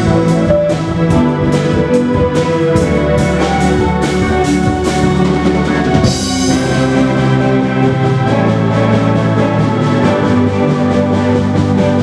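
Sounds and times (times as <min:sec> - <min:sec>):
drum kit steady beat: 0:00.0 - 0:12.0
electric guitar: 0:00.0 - 0:12.0.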